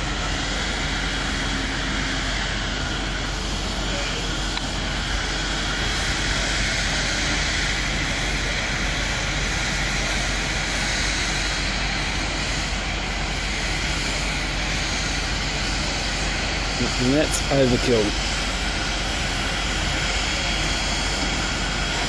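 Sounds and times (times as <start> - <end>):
foam hose nozzle hissing: 3.3 - 22.0.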